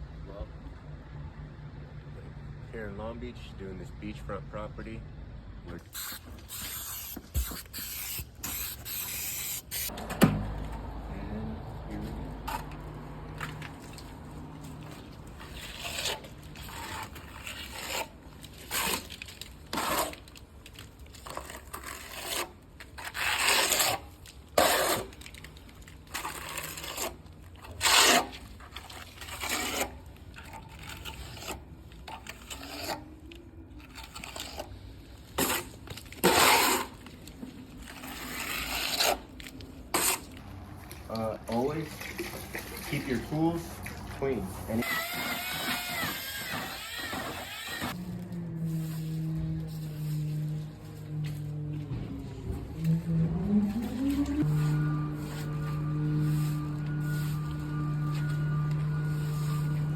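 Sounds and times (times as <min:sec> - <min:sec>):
trowel scraping: 0:05.7 - 0:10.0, 0:12.0 - 0:52.2, 0:52.8 - 0:59.9.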